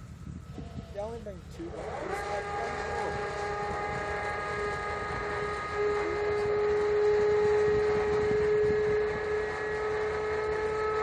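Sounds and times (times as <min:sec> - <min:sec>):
ship machinery rumble: 0:00.0 - 0:11.0
winch whining: 0:00.0 - 0:11.0
wind: 0:00.0 - 0:11.0.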